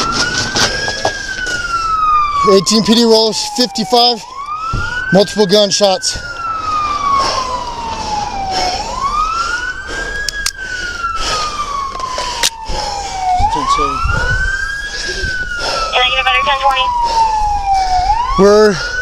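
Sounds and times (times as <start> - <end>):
police siren wailing: 0.0 - 19.0.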